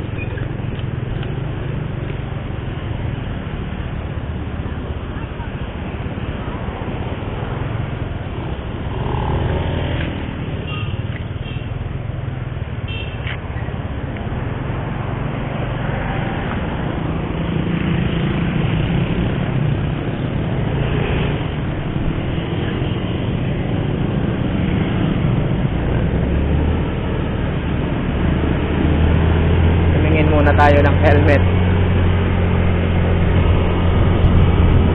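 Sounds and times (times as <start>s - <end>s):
road and air noise: 0.0s - 34.9s.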